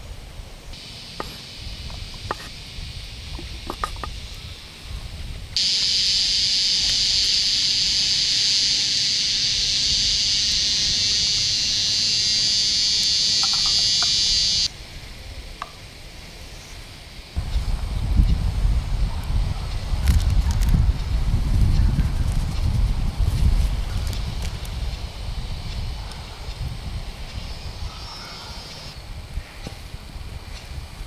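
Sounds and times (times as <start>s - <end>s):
insects buzzing: 0.5s - 31.0s.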